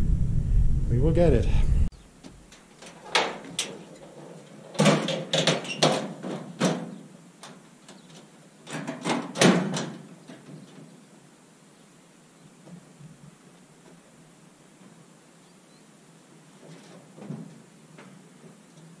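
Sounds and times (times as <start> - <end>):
quiet hiss: 0.0 - 19.0.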